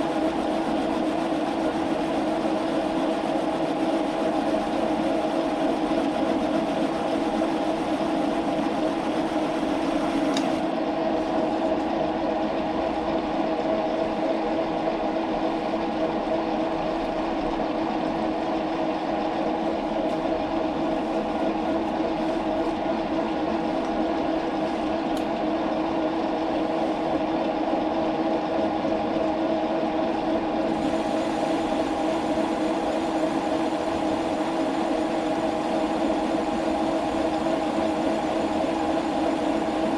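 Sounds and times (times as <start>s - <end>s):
metal lathe humming: 1.8s - 28.2s, 30.6s - 39.9s.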